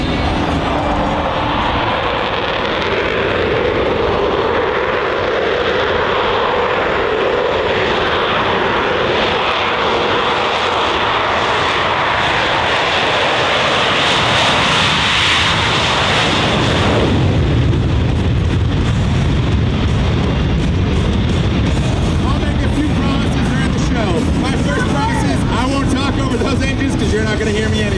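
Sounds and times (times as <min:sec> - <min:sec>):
jet flying past: 0:00.0 - 0:27.9.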